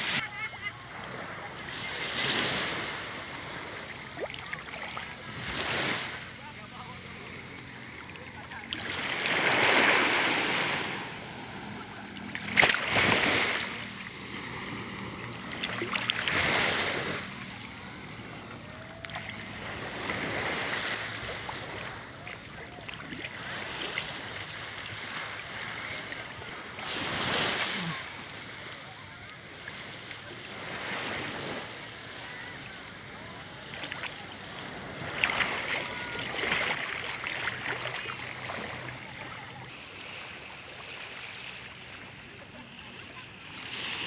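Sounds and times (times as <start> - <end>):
sea water splashing: 0.0 - 31.8, 33.6 - 44.0.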